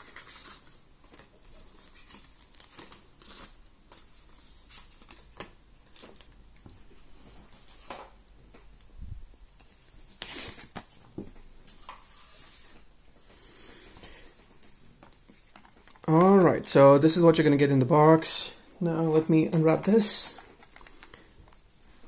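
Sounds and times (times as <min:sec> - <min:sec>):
paper and cords rustling on table: 0:00.0 - 0:08.8, 0:09.6 - 0:12.9, 0:13.6 - 0:16.8, 0:19.0 - 0:22.0.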